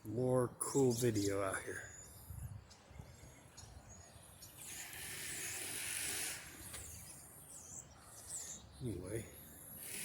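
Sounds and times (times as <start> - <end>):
faint bird chirps: 0.6 - 10.0.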